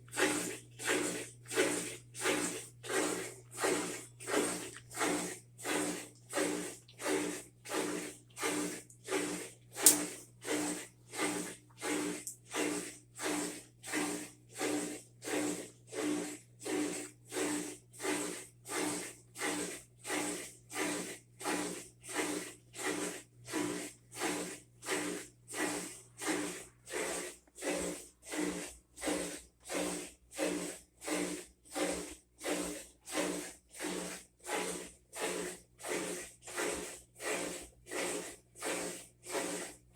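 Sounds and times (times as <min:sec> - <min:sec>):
washing machine water swishing: 0:00.0 - 0:39.9.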